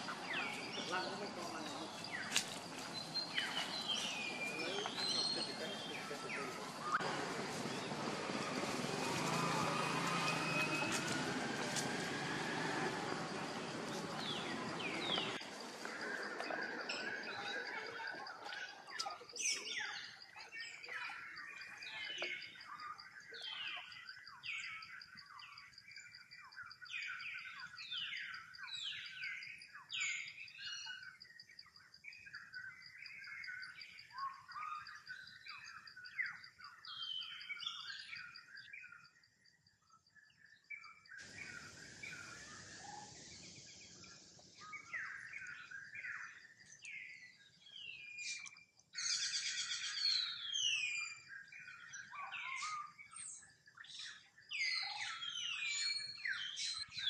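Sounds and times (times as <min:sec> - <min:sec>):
birds chirping: 0:00.0 - 0:39.0, 0:41.1 - 0:57.0
insect trill: 0:00.0 - 0:48.4.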